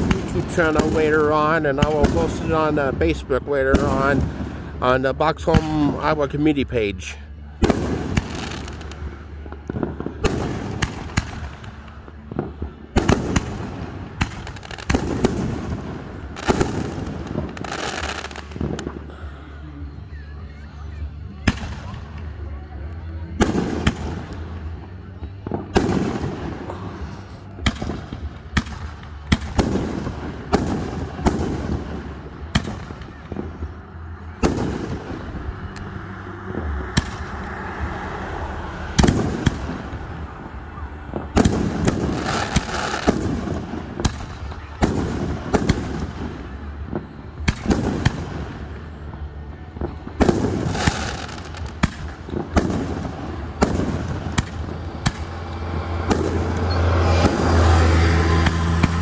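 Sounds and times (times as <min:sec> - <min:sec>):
fireworks bursting: 0:00.0 - 0:20.0, 0:20.9 - 0:59.0.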